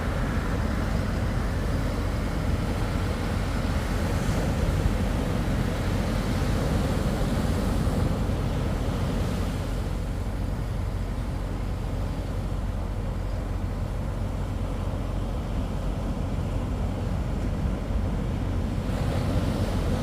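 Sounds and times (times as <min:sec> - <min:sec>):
engine running at low revs: 0:00.0 - 0:20.0
surf washing: 0:00.0 - 0:20.0.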